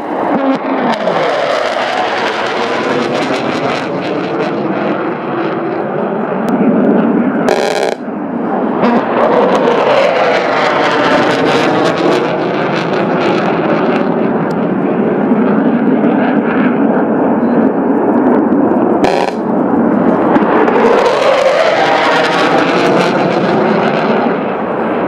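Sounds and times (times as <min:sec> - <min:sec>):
jet fighter flying past: 0:00.0 - 0:25.0.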